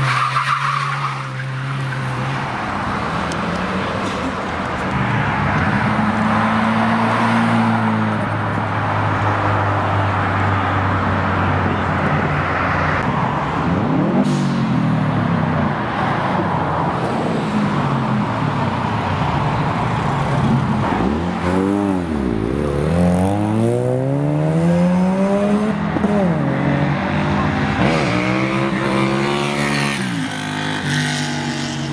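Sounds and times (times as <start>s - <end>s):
car engines idling and revving: 0.0s - 31.9s.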